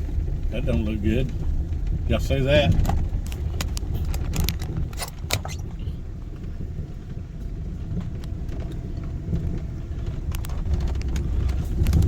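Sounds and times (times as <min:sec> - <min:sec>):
engine and tyre rumble: 0:00.0 - 0:12.0
rattles and clicks: 0:00.0 - 0:12.0.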